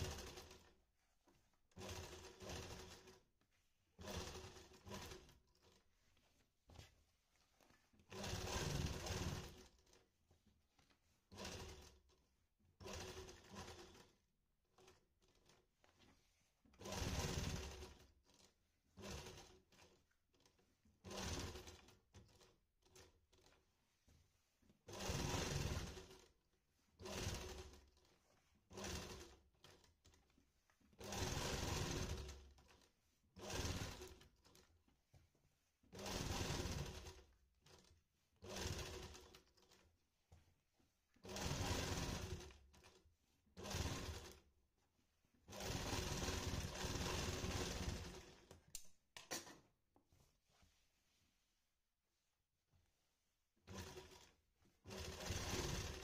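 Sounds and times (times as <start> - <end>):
sewing machine stitching: 0.0 - 0.8, 1.6 - 7.0, 7.6 - 23.7, 24.6 - 34.8, 35.8 - 39.9, 41.1 - 44.6, 45.4 - 49.7, 53.6 - 56.0.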